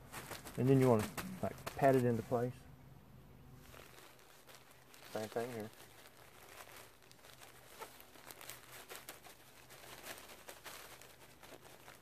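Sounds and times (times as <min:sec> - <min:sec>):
plastic sheet rustling: 0:00.0 - 0:02.6, 0:03.6 - 0:12.0.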